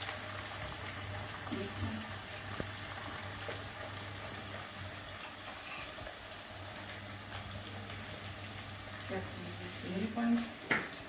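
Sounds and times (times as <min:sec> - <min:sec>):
potatoes sizzling in fat: 0:00.0 - 0:11.0.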